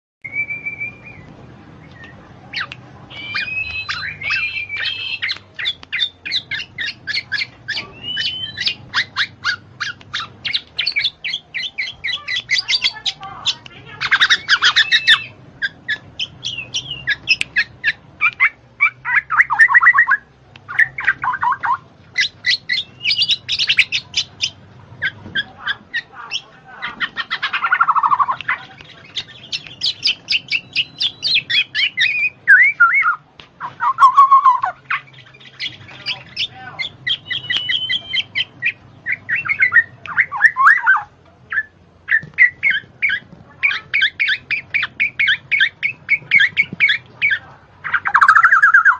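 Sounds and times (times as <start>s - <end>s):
bird chattering and squawking: 2.5s - 48.9s.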